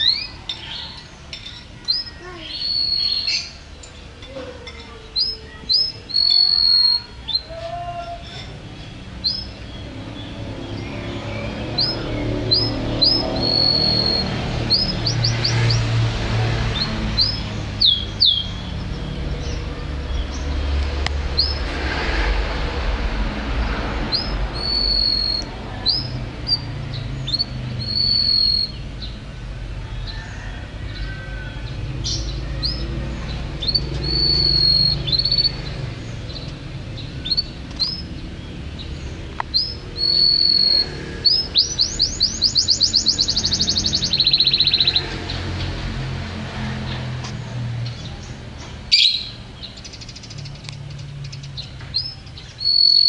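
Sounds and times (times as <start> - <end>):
canary singing: 0.0 - 21.7, 24.0 - 47.0, 47.9 - 53.0.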